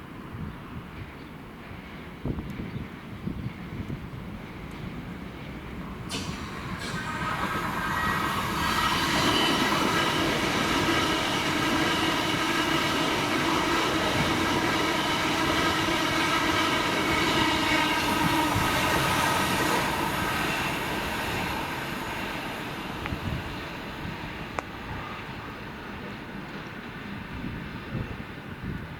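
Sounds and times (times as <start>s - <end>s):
multi-tone train whine: 0.0s - 28.9s
train passing: 0.0s - 28.9s.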